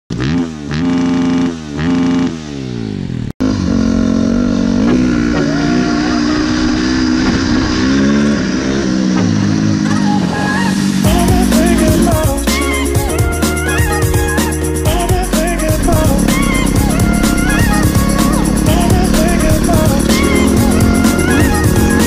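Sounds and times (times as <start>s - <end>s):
dirt bike engine revving: 0.1s - 22.0s.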